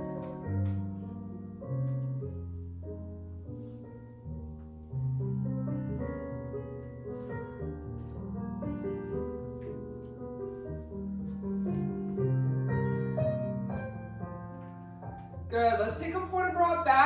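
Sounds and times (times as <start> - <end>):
jazz piano playing chords: 0.0 - 17.0.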